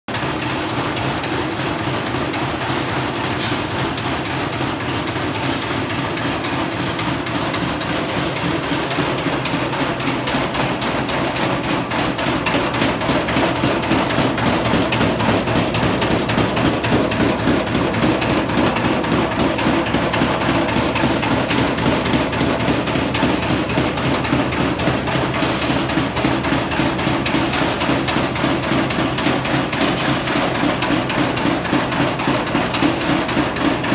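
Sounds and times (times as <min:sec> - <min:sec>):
metallic clatter of machine: 0:00.1 - 0:33.9.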